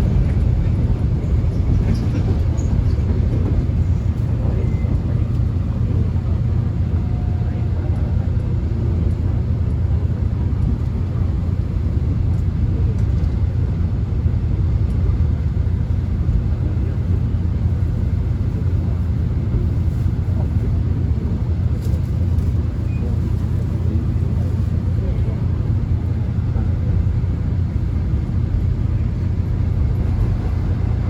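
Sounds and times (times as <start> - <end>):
subway train rumbling: 0.0 - 31.0.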